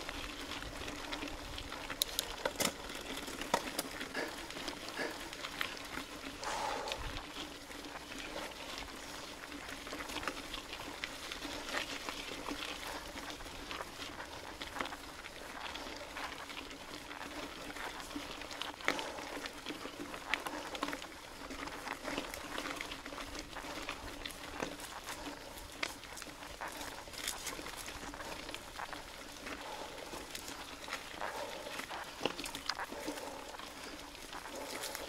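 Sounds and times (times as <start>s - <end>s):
small clicks and rattles: 0.0s - 6.4s, 7.2s - 35.0s
bike tyres rolling: 0.0s - 35.0s.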